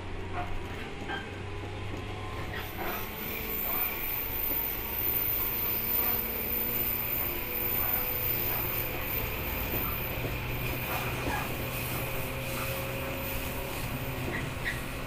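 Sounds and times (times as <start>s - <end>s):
wheel and rail noise: 0.0s - 15.0s.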